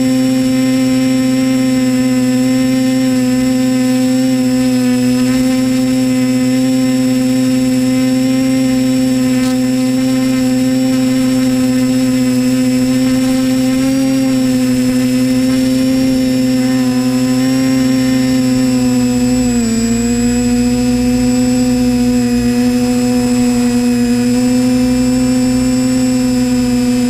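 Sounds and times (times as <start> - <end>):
drone propellers humming: 0.0 - 27.0.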